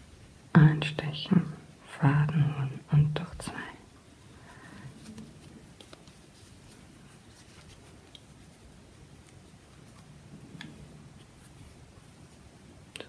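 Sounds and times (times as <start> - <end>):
crochet hook and yarn rustling: 0.0 - 12.9.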